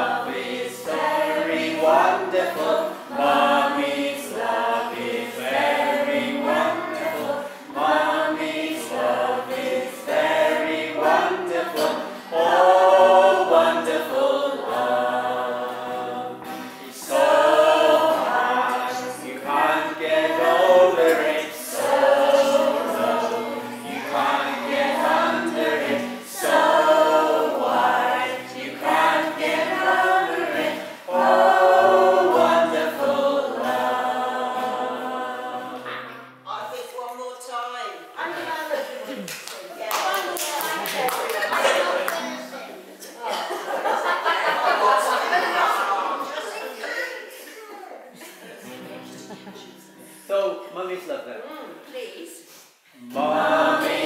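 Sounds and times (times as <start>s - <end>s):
children and women singing: 0.0s - 36.4s, 38.1s - 47.6s, 53.0s - 54.0s.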